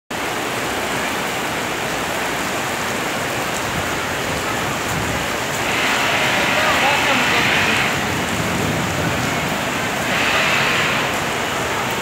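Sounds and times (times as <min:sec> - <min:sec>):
rain pattering on hard surfaces: 0:00.1 - 0:12.0.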